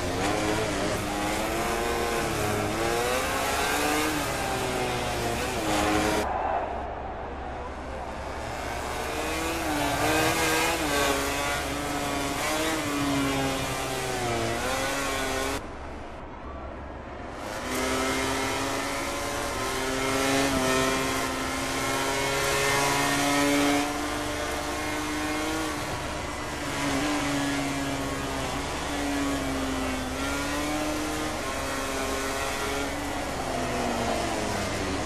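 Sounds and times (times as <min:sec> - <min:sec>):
racing motorcycle engines revving: 0:00.0 - 0:06.5, 0:07.5 - 0:15.7, 0:17.2 - 0:35.0.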